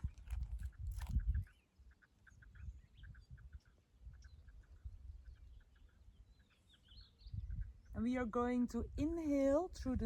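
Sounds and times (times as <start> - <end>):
faint bird chirping: 0.0 - 8.5.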